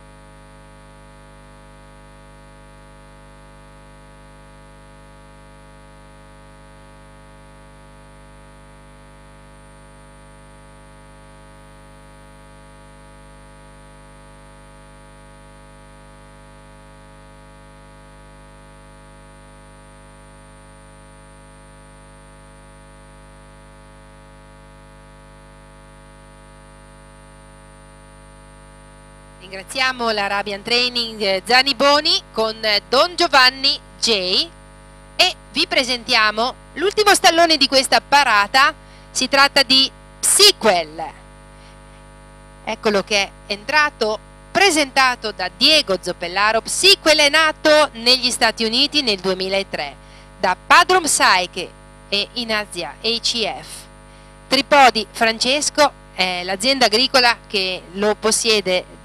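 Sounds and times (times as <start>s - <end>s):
electrical hum and buzz: 0.0s - 59.0s.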